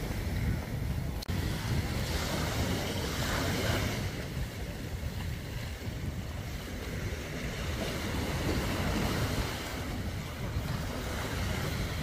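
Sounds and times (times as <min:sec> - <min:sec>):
sea waves breaking on sand: 0:00.0 - 0:12.0.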